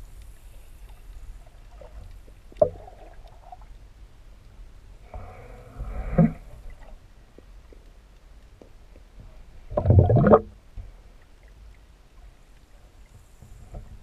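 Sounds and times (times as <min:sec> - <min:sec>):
underwater water rumble: 0:00.0 - 0:14.0.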